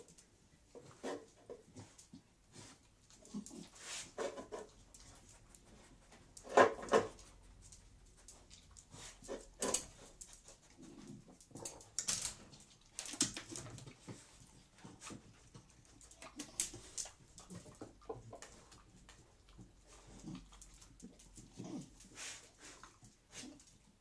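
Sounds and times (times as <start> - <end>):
dogs sniffing and snuffling: 0.0 - 24.0.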